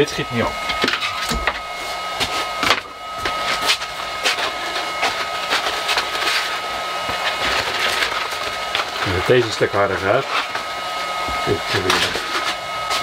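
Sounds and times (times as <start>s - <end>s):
machine whine and hum: 0.0s - 13.0s.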